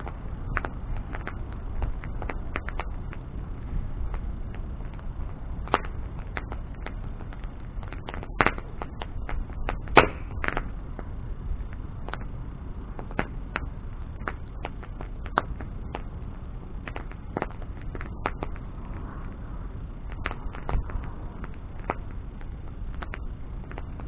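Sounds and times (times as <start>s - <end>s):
bonfire crackling and popping: 0.0s - 24.0s
rumble of burning: 0.0s - 24.0s.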